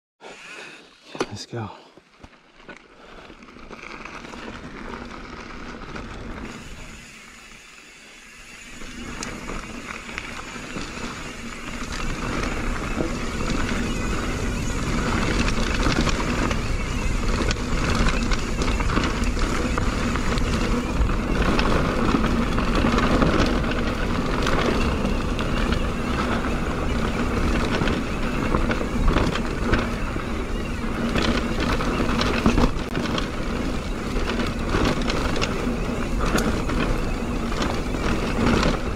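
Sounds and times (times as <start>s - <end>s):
bike tyres on dirt trail: 0.2s - 38.9s
bike clicks and rattles: 2.0s - 38.9s.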